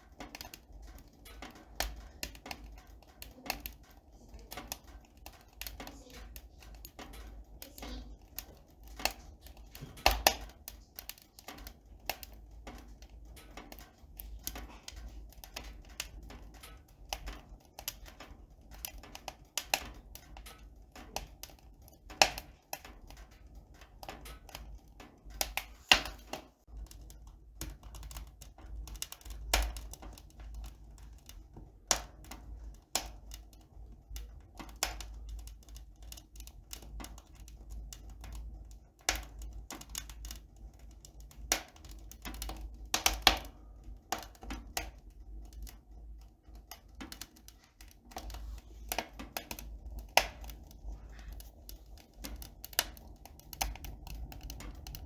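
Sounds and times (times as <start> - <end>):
light clicks and taps: 0.0 - 55.0.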